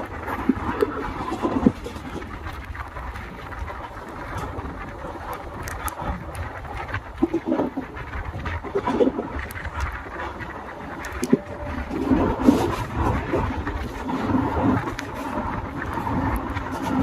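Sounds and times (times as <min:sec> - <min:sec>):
wind noise: 0:00.0 - 0:17.0.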